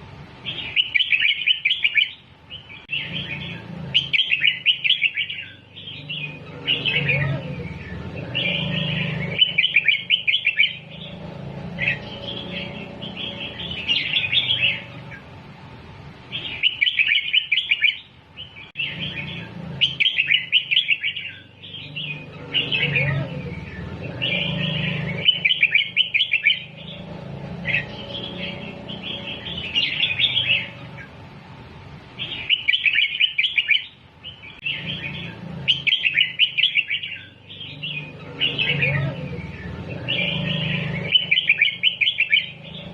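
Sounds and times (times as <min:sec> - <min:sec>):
bird singing warbled phrases: 0:00.3 - 0:15.4, 0:16.2 - 0:42.9.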